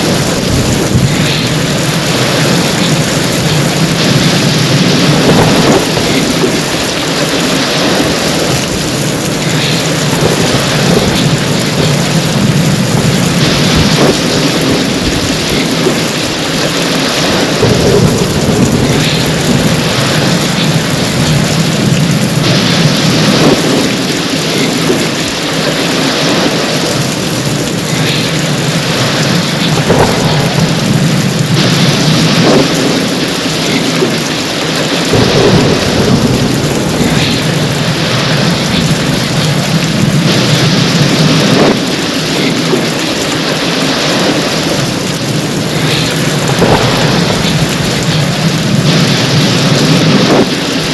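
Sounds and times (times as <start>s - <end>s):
heavy rain falling: 0.0s - 50.9s
low rumble of thunder: 0.0s - 50.9s.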